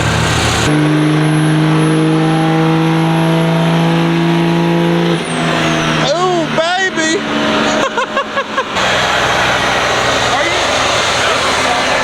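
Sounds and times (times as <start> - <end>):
truck droning: 0.0 - 12.0.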